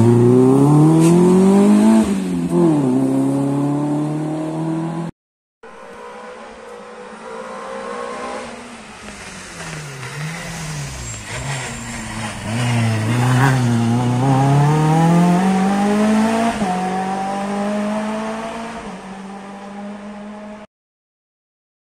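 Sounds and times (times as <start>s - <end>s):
rally car engine revving: 0.0s - 5.1s, 5.8s - 20.6s.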